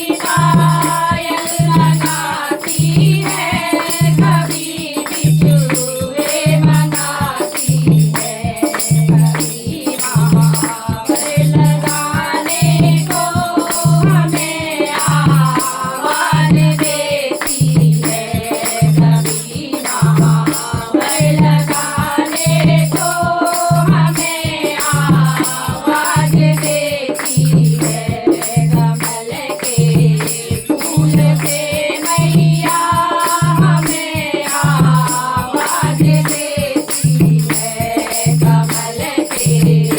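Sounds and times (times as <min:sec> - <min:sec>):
person singing devotional song: 0:00.0 - 0:39.9
rattling jingle percussion: 0:00.0 - 0:39.9.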